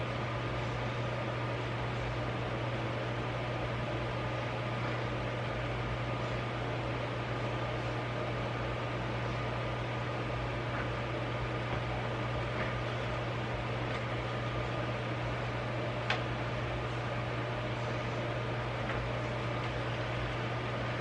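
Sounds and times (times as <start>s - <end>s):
appliance humming with hiss: 0.0s - 21.0s.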